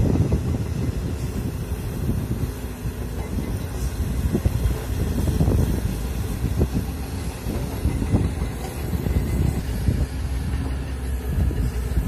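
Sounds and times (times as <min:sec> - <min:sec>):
excavator diesel engine rumble: 0:00.0 - 0:12.0.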